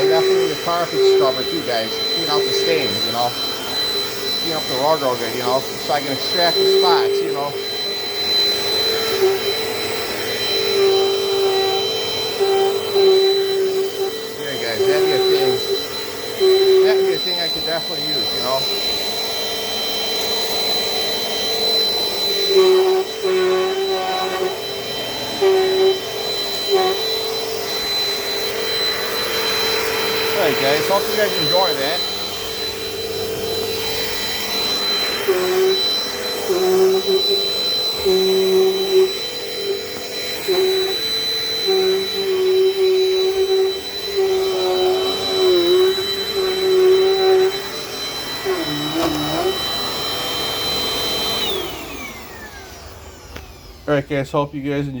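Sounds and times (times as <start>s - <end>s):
vacuum cleaner motor whine: 0.0s - 55.0s.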